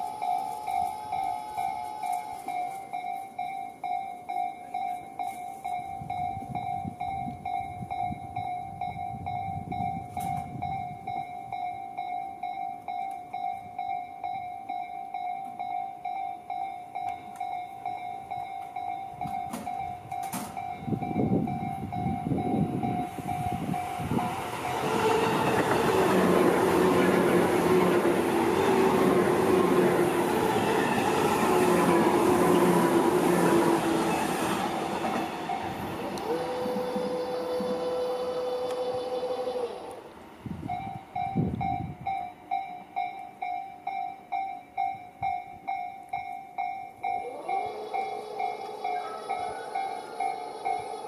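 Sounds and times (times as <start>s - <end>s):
electric train passing: 0.0s - 51.0s
level crossing warning bell: 0.0s - 51.0s.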